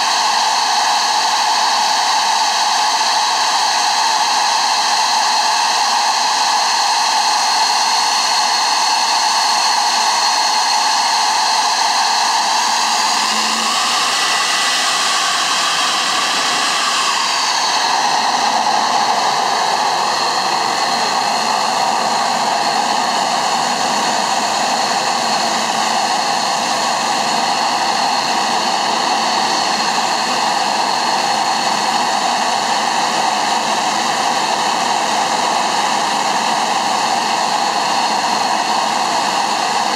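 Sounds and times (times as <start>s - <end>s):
jet engine roaring and whining: 0.0s - 39.9s.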